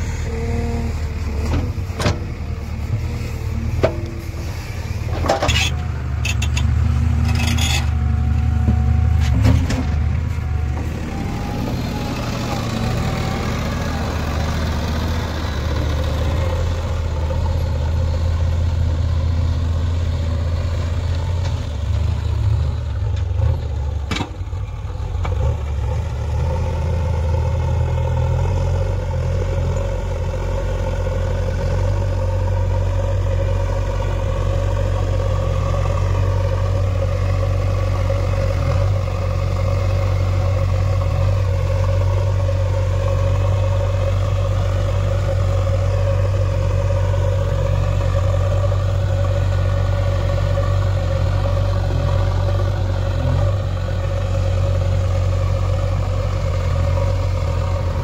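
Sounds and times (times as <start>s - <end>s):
diesel engine running: 0.0s - 58.0s
loader bucket pushing soil: 0.0s - 58.0s.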